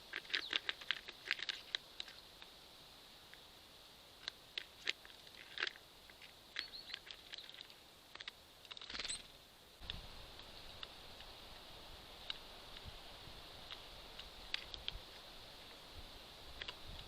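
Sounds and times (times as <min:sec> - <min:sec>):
birds pecking seeds: 0:00.0 - 0:17.0.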